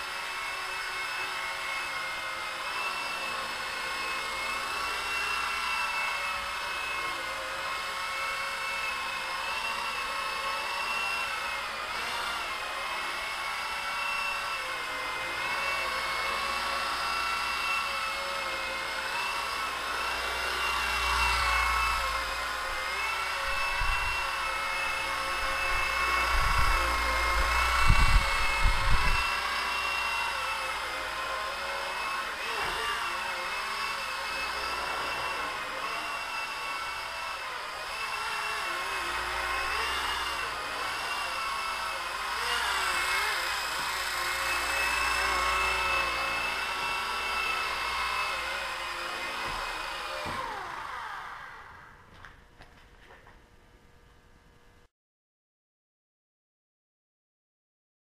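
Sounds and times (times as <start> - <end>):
rc helicopter motor whine: 0.0 - 52.2.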